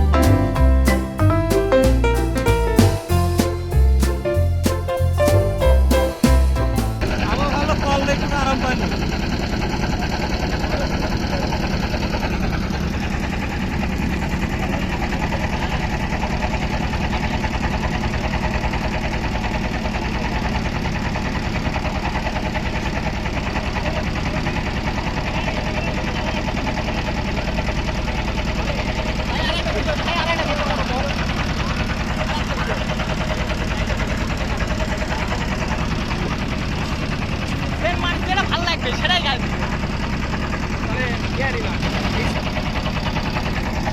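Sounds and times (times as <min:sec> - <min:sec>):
motor boat engine chugging: 0:02.5 - 0:43.9.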